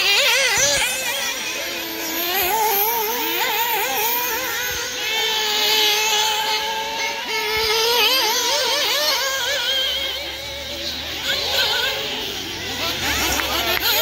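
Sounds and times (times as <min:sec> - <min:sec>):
rc buggy engines racing: 0:00.0 - 0:14.0.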